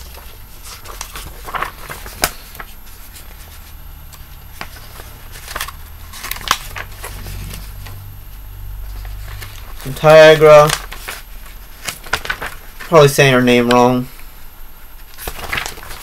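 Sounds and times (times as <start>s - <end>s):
comic book pages rustling: 0.0s - 8.0s, 8.8s - 16.0s
steady low hum: 0.0s - 16.0s.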